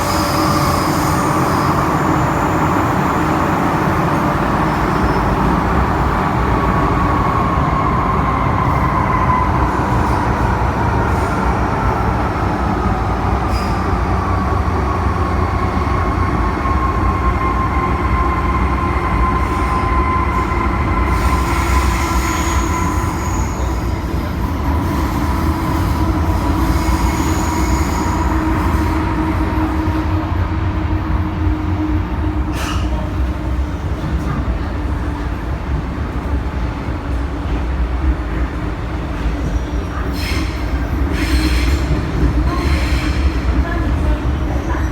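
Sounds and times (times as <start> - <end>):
electric train rumbling: 0.0 - 44.9.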